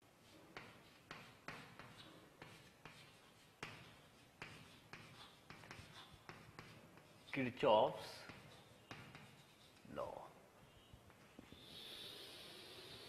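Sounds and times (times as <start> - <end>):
chalk tapping and scratching on chalkboard: 0.0 - 11.5.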